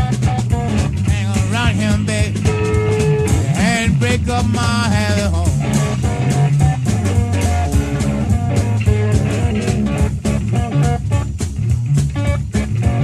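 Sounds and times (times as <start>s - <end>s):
drum kit: 0.0s - 13.0s
electric slide guitar: 0.0s - 13.0s
second guitar: 0.0s - 13.0s.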